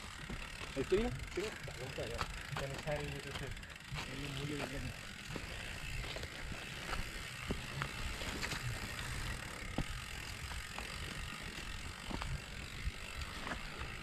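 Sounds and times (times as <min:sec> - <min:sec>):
bicycle freewheel ticking: 0:00.0 - 0:14.0
bike chain and frame rattling: 0:00.0 - 0:14.0.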